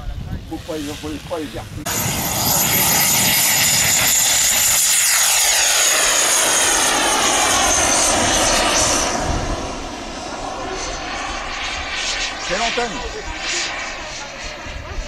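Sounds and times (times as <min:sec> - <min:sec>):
model jet high-pitched whine: 0:00.0 - 0:15.0.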